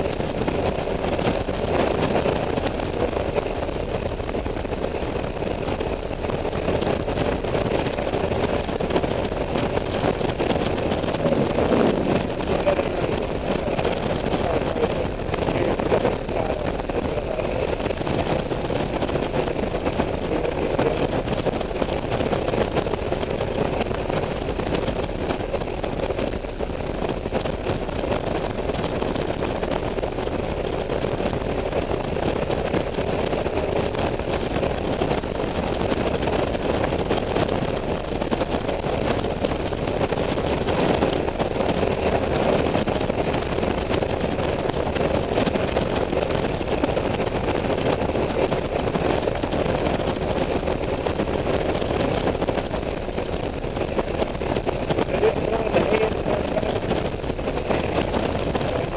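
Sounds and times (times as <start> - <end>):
scooter engine drone: 0.0 - 58.9
wind rush on microphone: 0.0 - 58.9.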